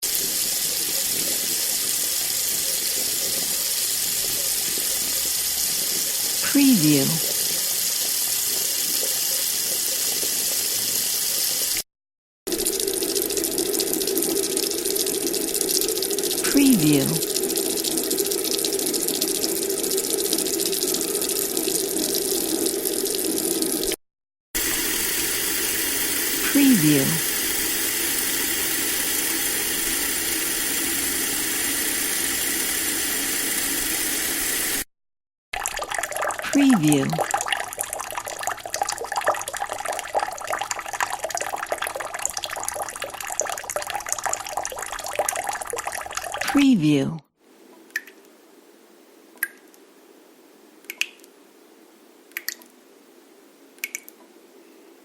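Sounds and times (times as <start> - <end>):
running water: 0.0 - 11.8, 12.5 - 24.0, 24.6 - 34.9, 35.6 - 47.1.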